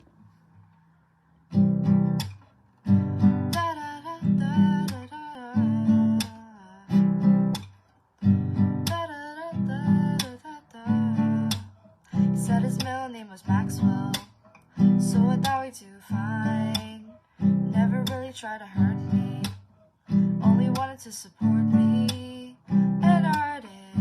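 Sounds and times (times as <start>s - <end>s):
acoustic guitar strumming chords: 1.4s - 24.0s.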